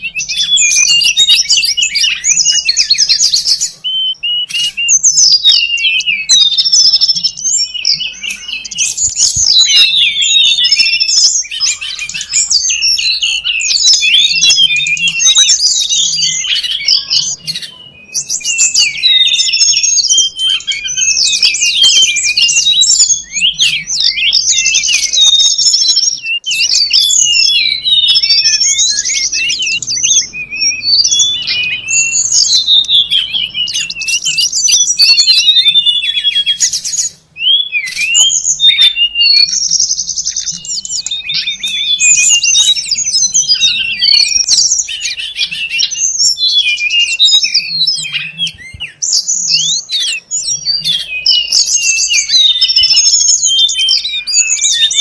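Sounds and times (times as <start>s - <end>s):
bird chirps and twittering trills: 0.0s - 55.0s.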